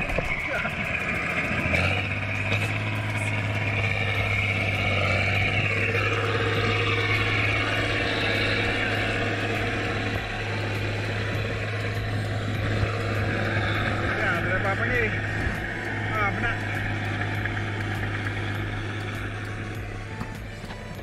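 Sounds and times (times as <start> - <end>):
tractor engine running: 0.0 - 21.0
wheels churning through water: 0.0 - 21.0.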